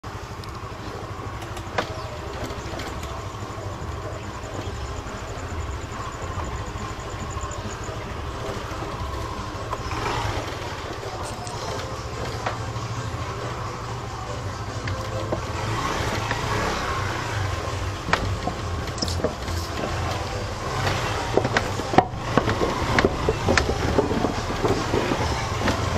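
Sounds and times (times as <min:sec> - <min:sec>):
small motorcycle engine running: 0:00.0 - 0:25.9.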